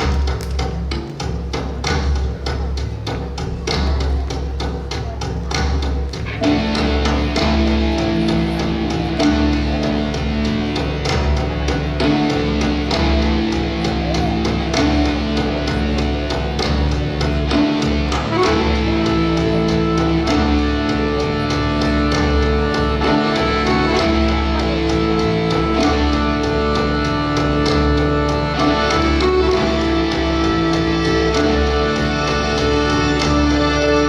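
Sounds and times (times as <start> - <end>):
instrumental folk dance music: 0.0 - 34.0.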